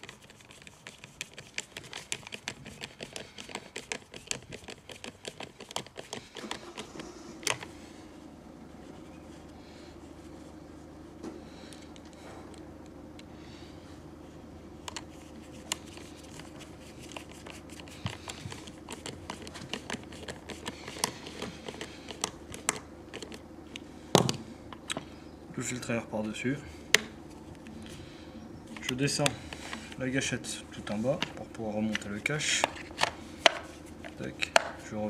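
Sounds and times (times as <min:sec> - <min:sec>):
faint low hum: 0:06.2 - 0:35.0.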